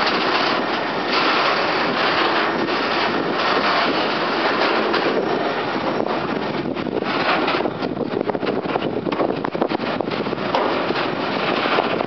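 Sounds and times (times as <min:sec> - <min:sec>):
freight train rolling past: 0:00.0 - 0:12.0
wheels clicking and knocking: 0:00.0 - 0:12.0.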